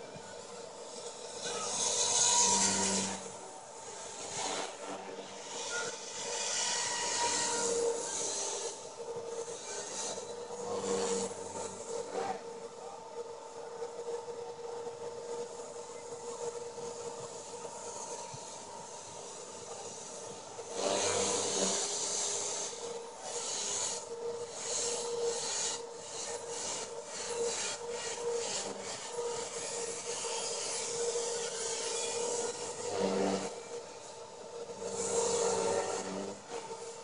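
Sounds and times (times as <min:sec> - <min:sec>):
rc helicopter rotor whine: 0:00.0 - 0:37.0.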